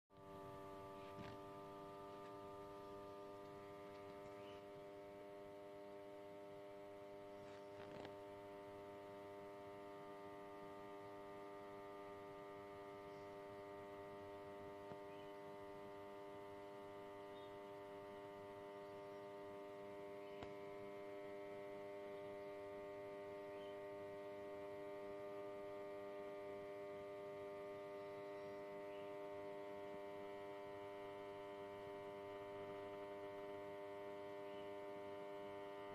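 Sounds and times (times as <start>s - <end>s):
faint electrical hum: 0.2s - 35.9s.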